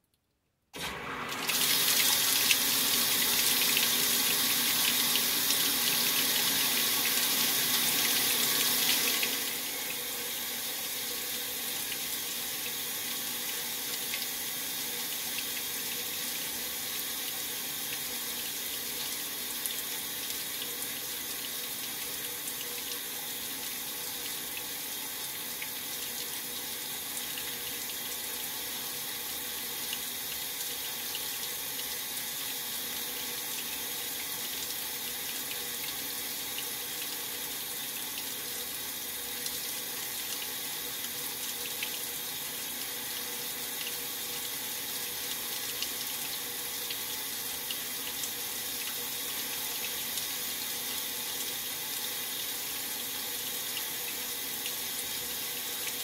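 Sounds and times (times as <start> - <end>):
water spraying into washer tub: 0.8 - 56.0.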